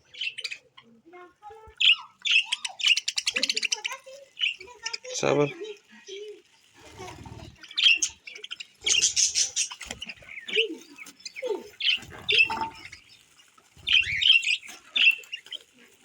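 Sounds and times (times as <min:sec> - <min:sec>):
pet birds chirping and squawking: 0:00.0 - 0:16.0.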